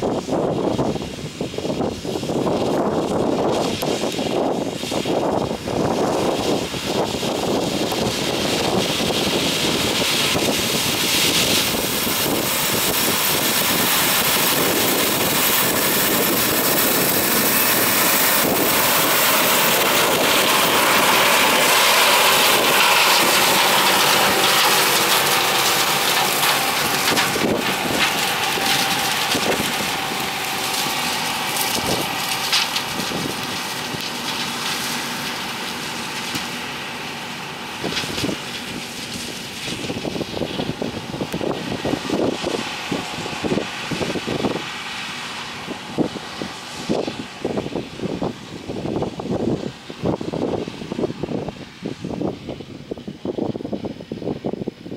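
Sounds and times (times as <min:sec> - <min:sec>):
combine harvester machinery running: 0:00.0 - 0:54.9.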